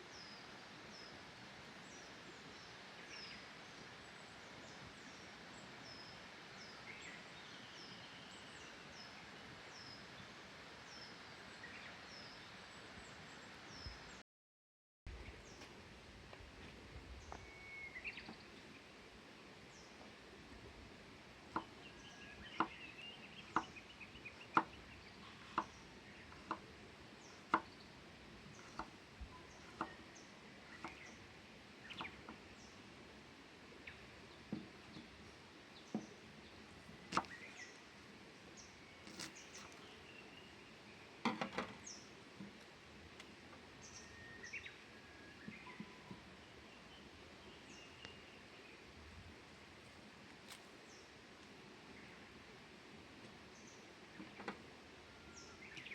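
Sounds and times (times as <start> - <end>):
small birds chirping: 0.0 - 14.2, 17.1 - 19.0, 21.5 - 33.0, 33.7 - 49.0, 53.2 - 55.9.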